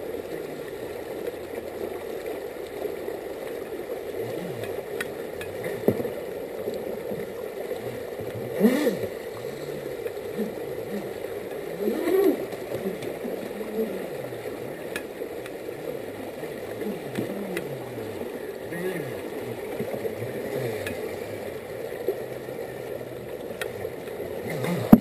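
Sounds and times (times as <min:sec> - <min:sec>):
model boat motor: 0:00.0 - 0:25.0
river rushing over rocks: 0:00.0 - 0:25.0.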